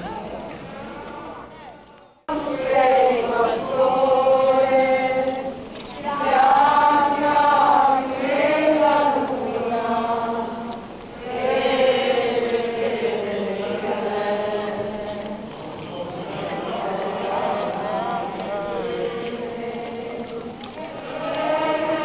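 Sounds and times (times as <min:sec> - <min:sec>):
people singing a hymn: 0:02.3 - 0:22.0.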